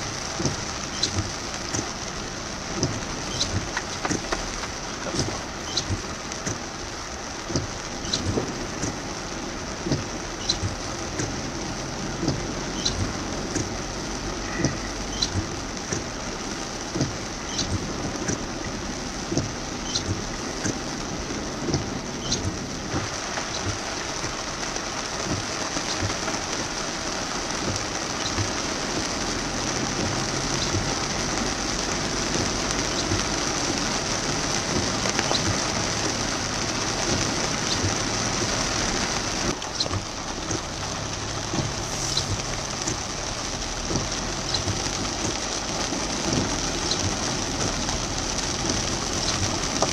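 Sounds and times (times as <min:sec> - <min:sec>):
heavy rain on car roof: 0:00.0 - 0:49.9.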